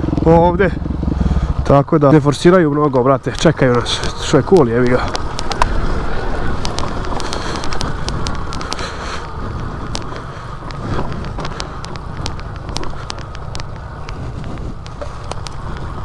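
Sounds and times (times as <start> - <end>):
motorcycle engine: 0.0 - 16.0
sharp clicks and ticks: 0.0 - 16.0
wind buffeting microphone: 0.0 - 16.0.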